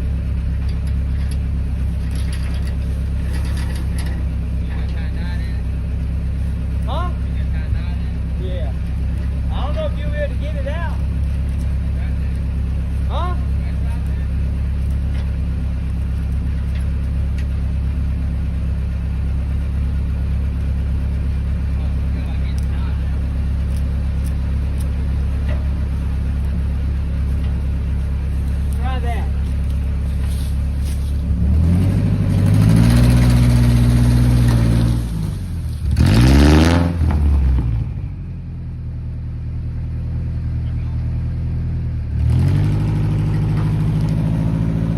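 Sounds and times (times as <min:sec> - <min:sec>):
vehicle engine low rumble: 0:00.0 - 0:44.9.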